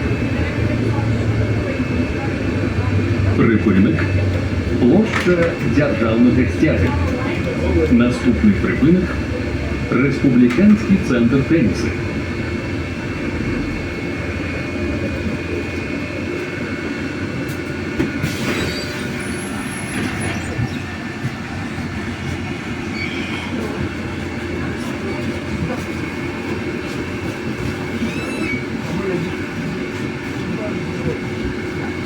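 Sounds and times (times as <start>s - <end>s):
bus cabin rumble: 0.0s - 32.0s.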